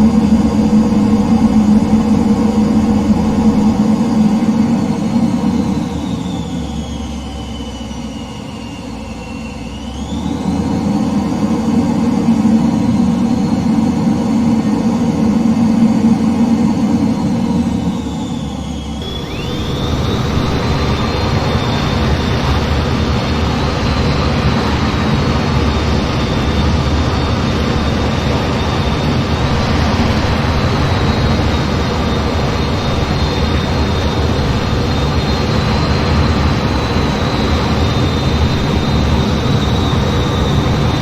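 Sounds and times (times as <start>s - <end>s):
jet engines roaring with whine: 0.0s - 41.0s.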